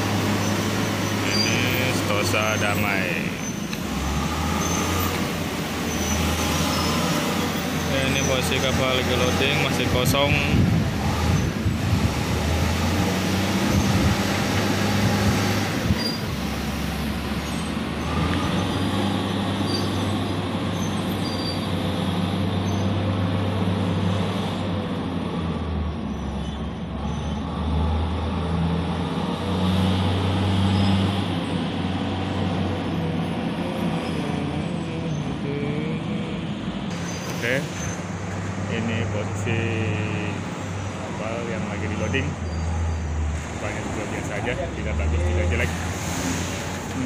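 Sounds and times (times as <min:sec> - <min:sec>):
heavy diesel machinery drone: 0:00.0 - 0:47.0.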